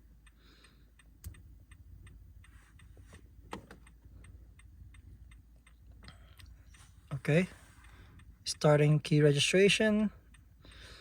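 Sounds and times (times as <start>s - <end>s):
hazard-light flasher ticking: 0.0s - 11.0s.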